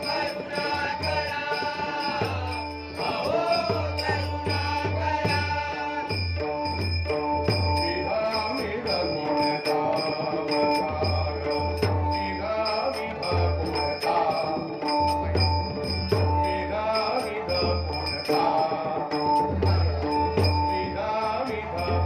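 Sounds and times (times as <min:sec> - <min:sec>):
hand cymbals clicking and jingling: 0:00.0 - 0:22.0.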